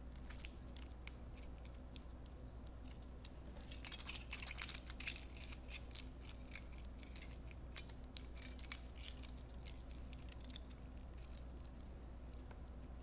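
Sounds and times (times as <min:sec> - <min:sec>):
foil crinkling: 0:00.2 - 0:12.4.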